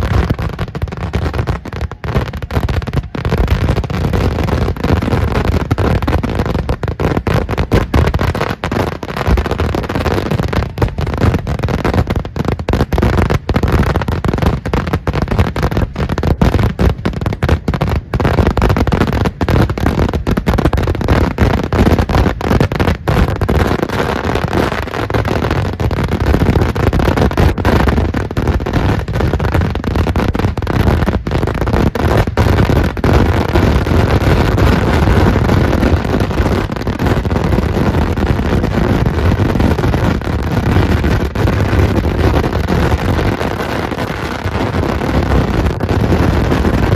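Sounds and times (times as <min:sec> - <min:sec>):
firecrackers barrage: 0:00.0 - 0:46.9.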